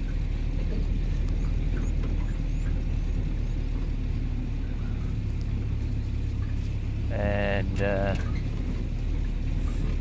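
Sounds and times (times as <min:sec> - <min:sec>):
vehicle driving on dirt road: 0:00.0 - 0:10.0.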